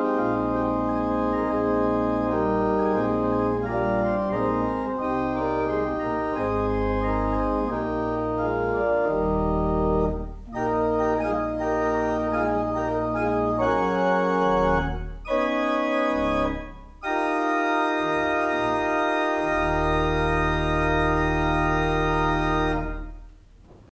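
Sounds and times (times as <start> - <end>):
church organ chords: 0.0 - 23.5.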